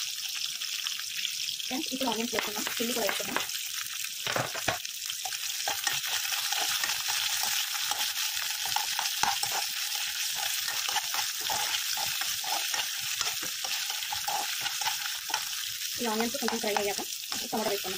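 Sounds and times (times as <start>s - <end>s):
onions sizzling in hot oil: 0.0s - 17.9s
spoon scraping and tapping pan: 2.2s - 3.6s, 4.2s - 17.7s.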